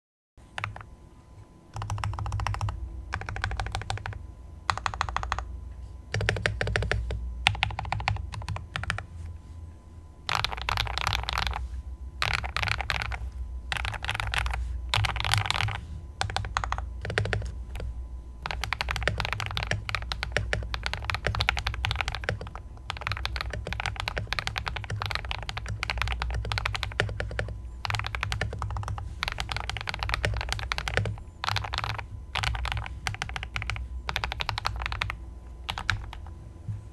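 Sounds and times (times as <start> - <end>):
mechanical keyboard typing: 0.6 - 0.9, 1.8 - 5.5, 6.1 - 9.1, 10.3 - 11.6, 12.2 - 36.3.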